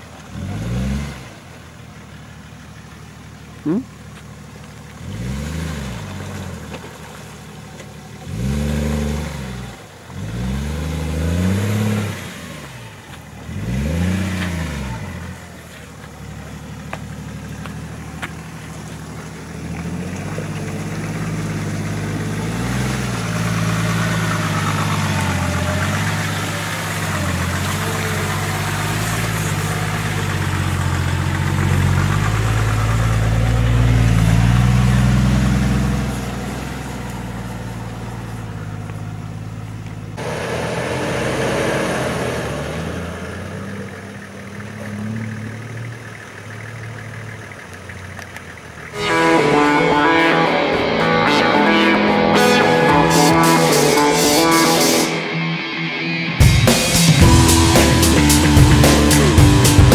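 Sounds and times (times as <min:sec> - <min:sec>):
suv driving past: 0:00.0 - 0:59.9
suv engine revving: 0:00.0 - 0:59.9.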